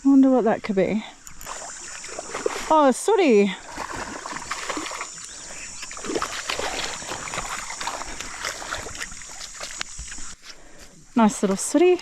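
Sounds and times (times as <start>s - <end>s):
water sloshing: 1.0s - 12.0s.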